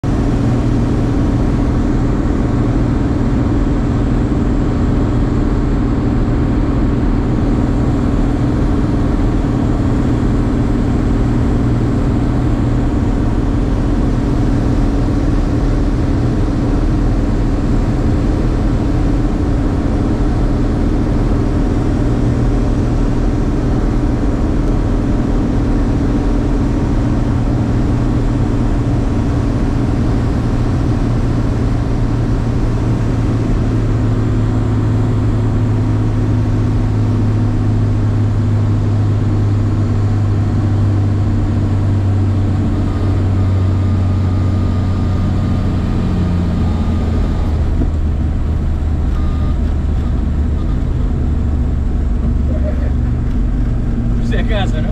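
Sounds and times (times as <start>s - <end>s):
plane engine and propeller droning: 0.0s - 54.9s.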